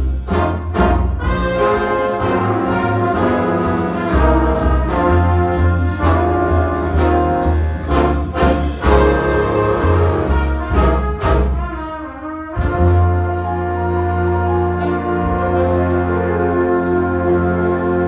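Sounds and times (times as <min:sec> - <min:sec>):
jazz big band playing: 0:00.0 - 0:18.0.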